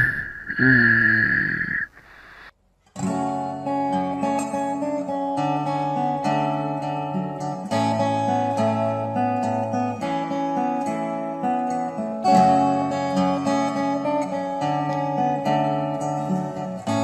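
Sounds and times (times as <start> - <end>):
fingerstyle acoustic guitar: 2.6 - 17.0.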